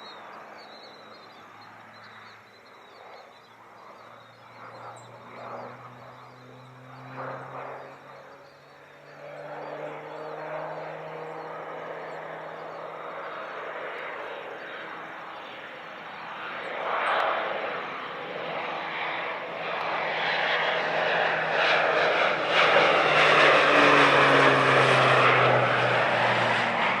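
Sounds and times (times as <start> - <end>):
airplane engine passing: 0.0 - 27.0.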